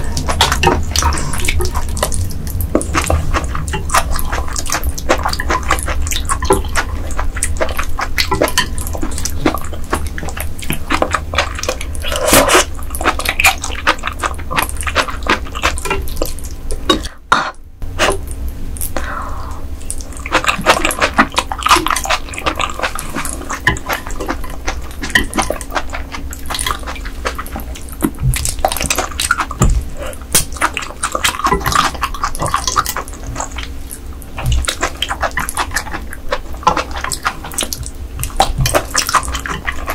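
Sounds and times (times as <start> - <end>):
wet chewing and slurping: 0.0 - 19.0, 19.7 - 39.9.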